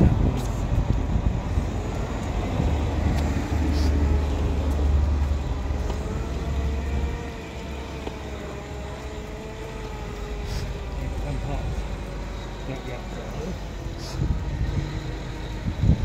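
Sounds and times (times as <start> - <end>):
faint steady engine hum: 0.0 - 16.0
vehicle passing: 0.0 - 16.0.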